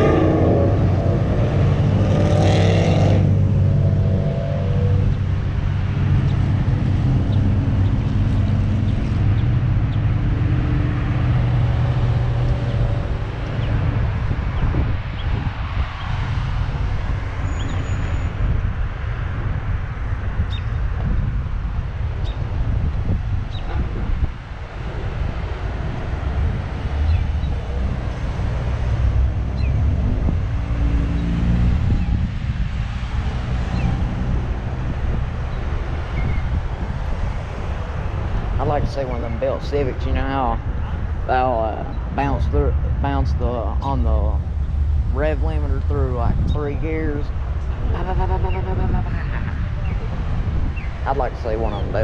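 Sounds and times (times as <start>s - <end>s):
cars driving past: 0.0s - 52.0s
road traffic passing: 0.0s - 52.0s
vehicle engine hum: 0.0s - 52.0s
wind buffeting microphone: 0.0s - 52.0s.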